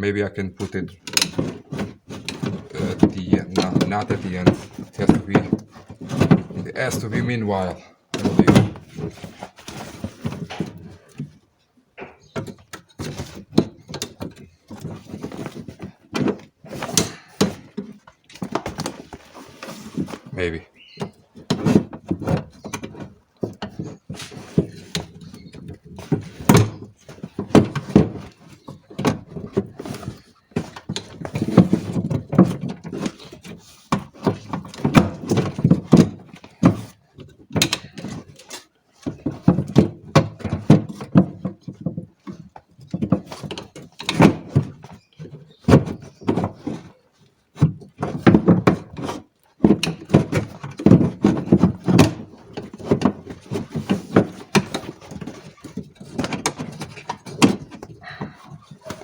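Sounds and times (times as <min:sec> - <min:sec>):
metal parts knocking and clunking: 0:00.0 - 0:59.0.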